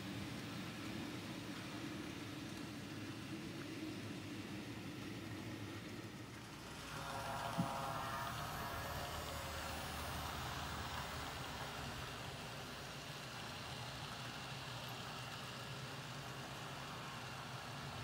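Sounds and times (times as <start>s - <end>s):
model train wheels whirring: 0.0s - 18.0s.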